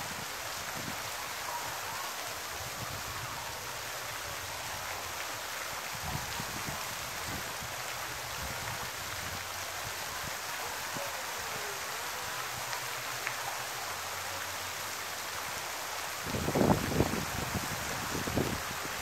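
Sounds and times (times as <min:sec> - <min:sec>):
fountain spray splashing on water: 0:00.0 - 0:19.0.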